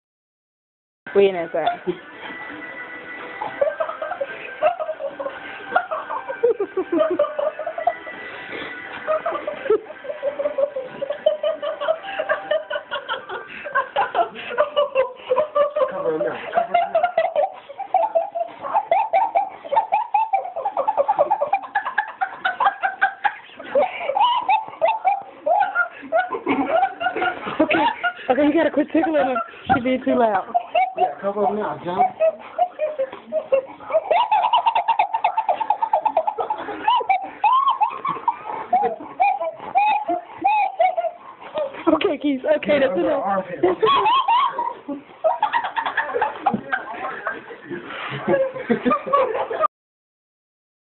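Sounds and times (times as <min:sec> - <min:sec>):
person laughing hard: 0:03.5 - 0:42.0, 0:43.4 - 0:47.4.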